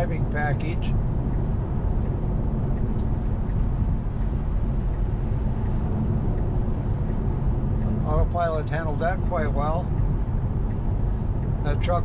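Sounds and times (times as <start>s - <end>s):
car tyre and road noise: 0.0s - 12.0s.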